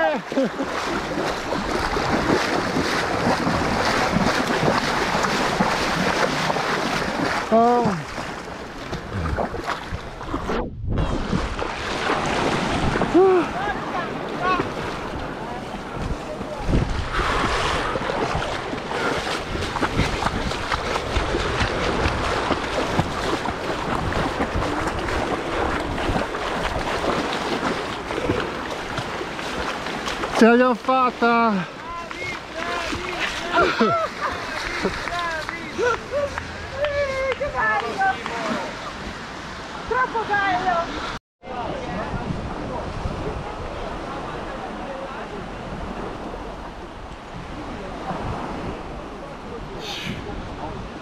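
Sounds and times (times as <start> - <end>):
sea water washing and splashing: 0.0 - 41.2
wind rumbling on microphone: 0.6 - 30.4, 32.1 - 51.0.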